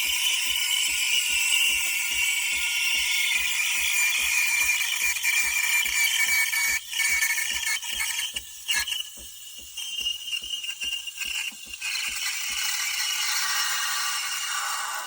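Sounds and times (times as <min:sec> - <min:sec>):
rapid mechanical ticking: 0:00.0 - 0:14.1.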